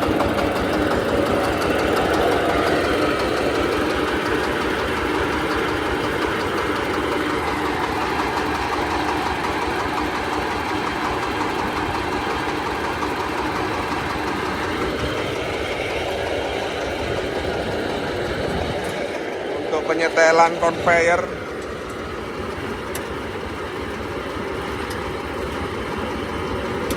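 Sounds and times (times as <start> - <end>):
diesel engine driving corn sheller: 0.0 - 26.9.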